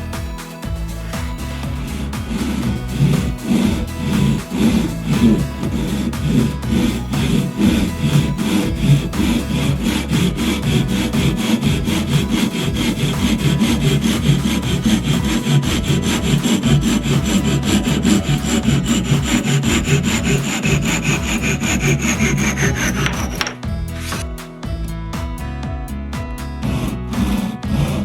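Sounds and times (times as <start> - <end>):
saw cutting wood: 0.0 - 24.3, 26.6 - 28.0.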